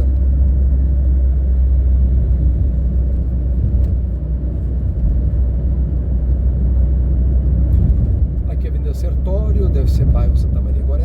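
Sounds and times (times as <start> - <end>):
car driving rumble: 0.0 - 11.0
road and wind noise: 0.0 - 11.0.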